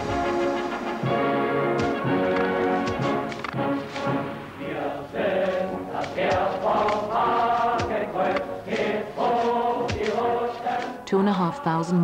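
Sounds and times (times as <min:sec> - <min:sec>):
choir singing: 0:01.0 - 0:12.0.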